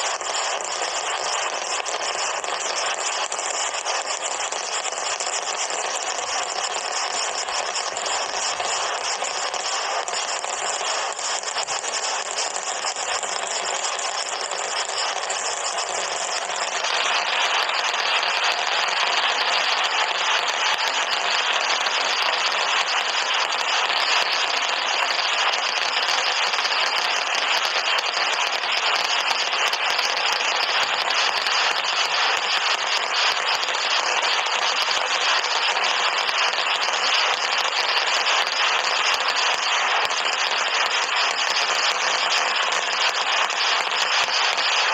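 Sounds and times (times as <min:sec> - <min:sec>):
firecrackers crackling: 0:00.0 - 0:44.9.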